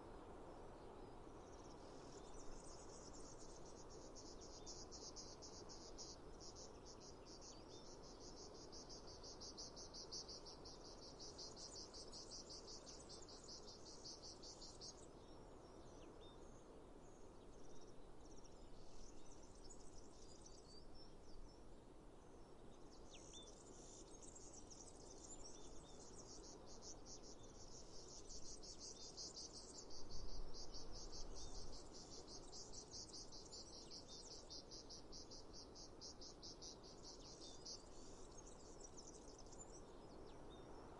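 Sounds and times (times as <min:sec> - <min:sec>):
insects chirping in a trill: 0:00.0 - 0:16.5, 0:17.3 - 0:21.5, 0:22.7 - 0:40.9.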